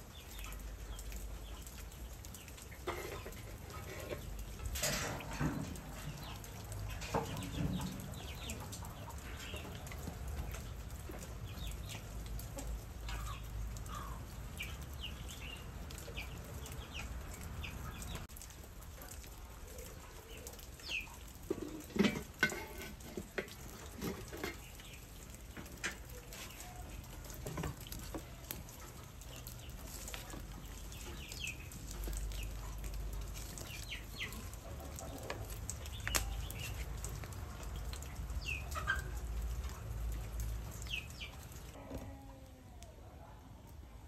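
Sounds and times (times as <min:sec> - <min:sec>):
small birds chirping: 0:00.0 - 0:18.4, 0:19.0 - 0:21.6, 0:23.8 - 0:41.8
wood fire crackling: 0:00.0 - 0:42.0.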